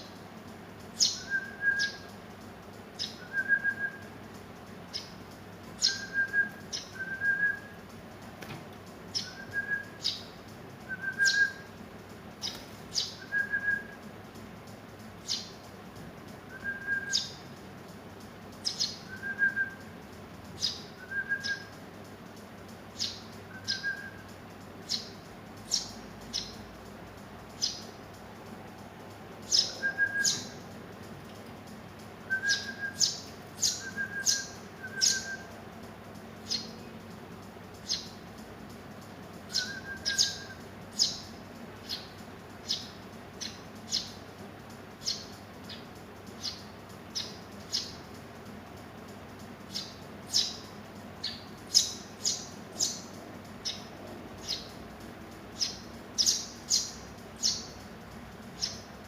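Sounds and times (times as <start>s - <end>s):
sparrow nestlings chirping: 0.0s - 59.0s.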